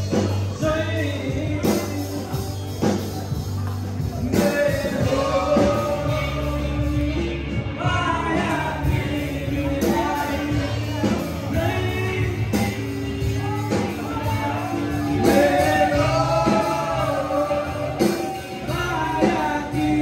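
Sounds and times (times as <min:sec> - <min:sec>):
live rock band playing: 0:00.0 - 0:20.0
man singing: 0:00.0 - 0:20.0.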